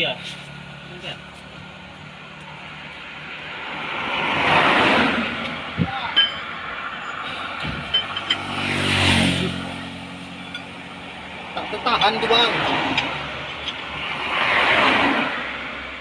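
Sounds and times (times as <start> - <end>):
vehicles passing by: 0.0 - 16.0.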